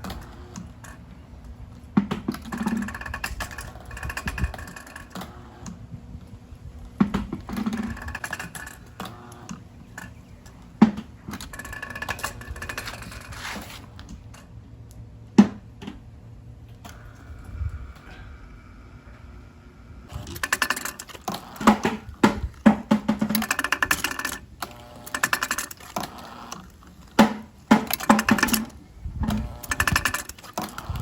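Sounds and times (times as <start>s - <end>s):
hydraulic engine running slowly: 0.0s - 31.0s
steady whine: 0.0s - 31.0s.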